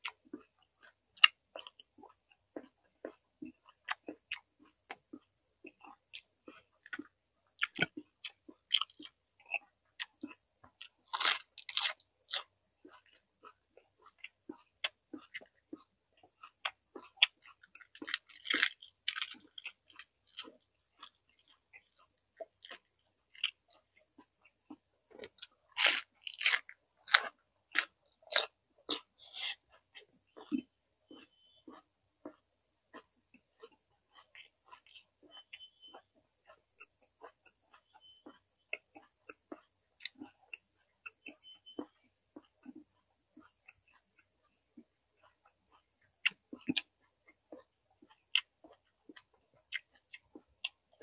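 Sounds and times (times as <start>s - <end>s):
person chewing crunchy food: 0.0s - 51.0s.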